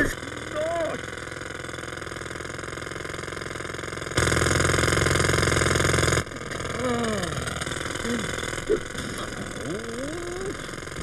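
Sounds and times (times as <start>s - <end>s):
jackhammer hammering: 0.0s - 11.0s.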